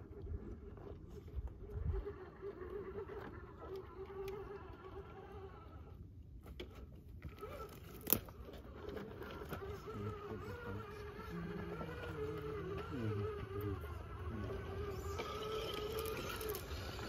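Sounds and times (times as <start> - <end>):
electric motor whining: 0.0 - 6.0, 7.2 - 17.0.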